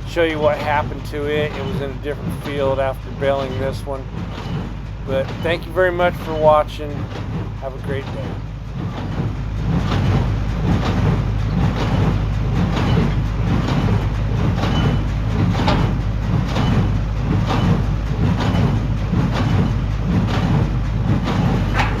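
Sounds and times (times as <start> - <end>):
baler rhythmic knock: 0.0 - 22.0
tractor engine running: 0.0 - 22.0.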